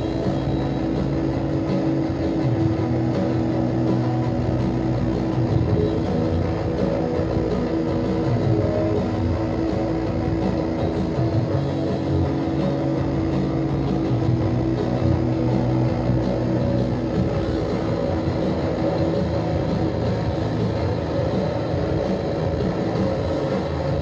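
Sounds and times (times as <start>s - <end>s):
bass guitar: 0.0s - 24.0s
distorted electric guitar: 0.0s - 24.0s.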